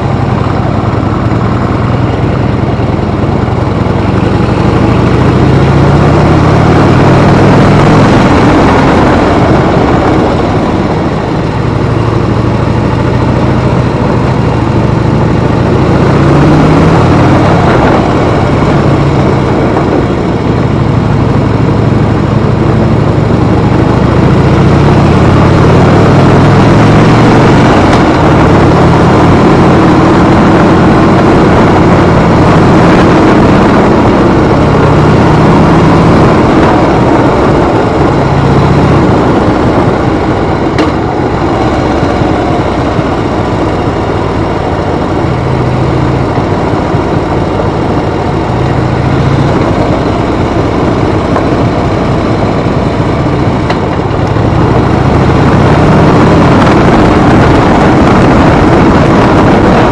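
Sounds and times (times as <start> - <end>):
motorcycle engine accelerating: 0.0 - 59.9
wind rushing: 0.0 - 59.9.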